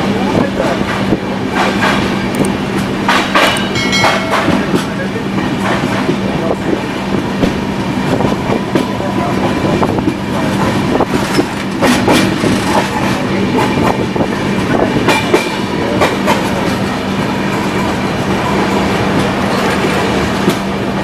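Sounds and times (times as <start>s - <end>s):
train running rumble: 0.0s - 21.0s
wheels clacking over rail joints: 0.1s - 7.6s, 8.2s - 21.0s.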